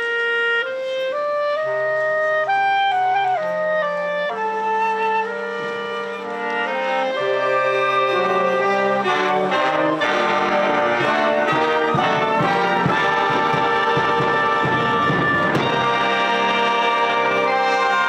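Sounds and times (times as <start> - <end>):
brass ensemble music: 0.0 - 18.0.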